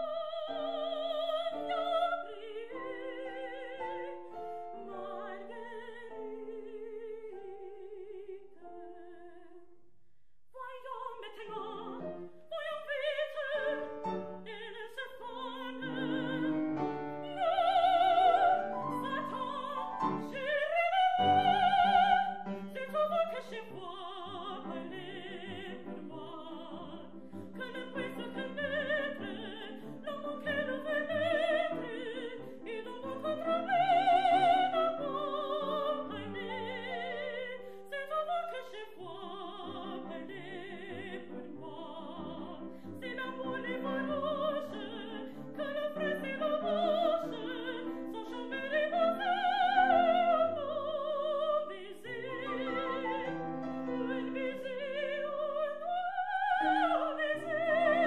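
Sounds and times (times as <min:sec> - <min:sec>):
woman singing opera: 0:00.0 - 0:09.7, 0:10.6 - 0:58.0
grand piano: 0:00.0 - 0:09.9, 0:10.6 - 0:58.0.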